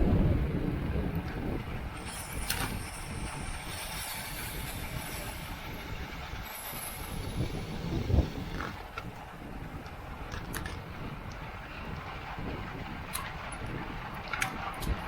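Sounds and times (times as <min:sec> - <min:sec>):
bicycle road noise: 0:00.0 - 0:15.0
wind rushing over microphone: 0:00.0 - 0:15.0.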